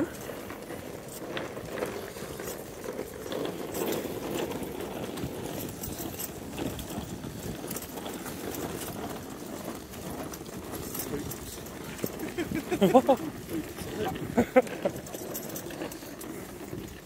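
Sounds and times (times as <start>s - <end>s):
trolley wheels rattling on tarmac: 0.0s - 17.0s.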